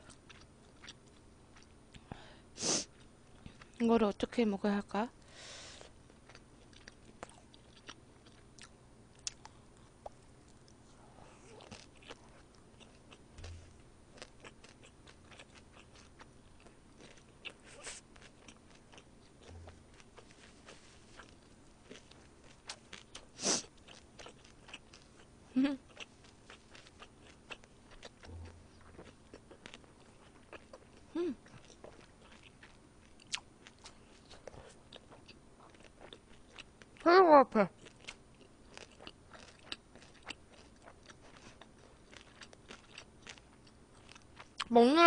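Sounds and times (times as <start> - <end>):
person chewing food: 0.0 - 2.2, 2.8 - 3.8, 5.8 - 37.0, 37.8 - 44.7.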